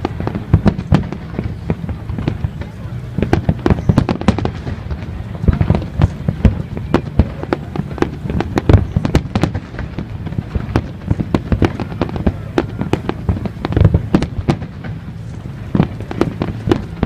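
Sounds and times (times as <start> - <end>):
fireworks bangs and crackling: 0.0 - 17.0
steady low rumble: 0.0 - 17.0.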